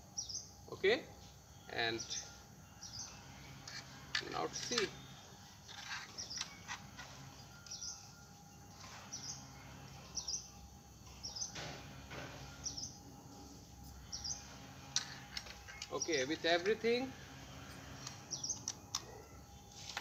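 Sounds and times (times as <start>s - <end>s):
bird chirping: 0.0s - 19.9s
low background hum: 0.0s - 20.0s.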